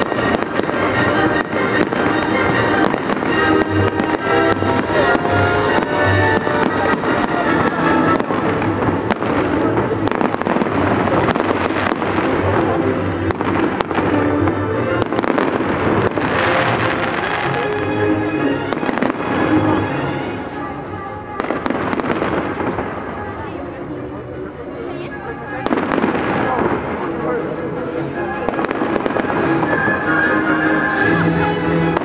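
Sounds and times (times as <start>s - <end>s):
fireworks bursting and crackling: 0.0s - 20.5s, 21.2s - 23.5s, 25.6s - 27.7s, 28.3s - 31.0s
loud music with held notes: 0.0s - 22.3s, 24.4s - 32.0s.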